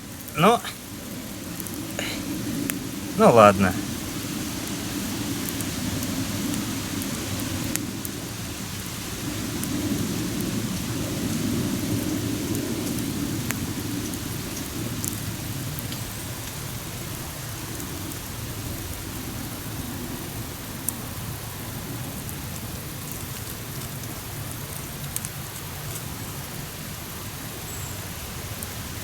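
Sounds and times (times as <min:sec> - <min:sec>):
fire crackles and pops: 0:00.0 - 0:19.7, 0:20.5 - 0:27.6
campfire low rush: 0:00.0 - 0:29.0.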